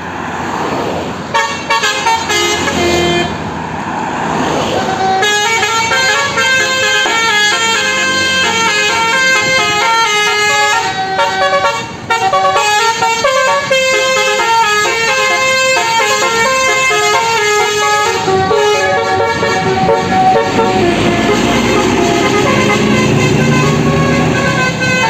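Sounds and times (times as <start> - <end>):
multi-tone bus horn tune: 1.2 - 3.5, 4.8 - 25.0.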